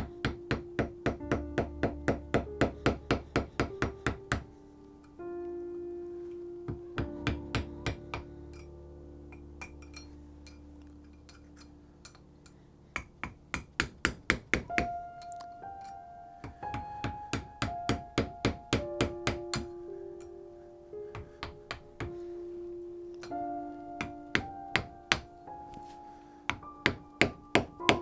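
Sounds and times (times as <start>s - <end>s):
background music of held notes: 0.0s - 13.8s, 14.4s - 28.0s.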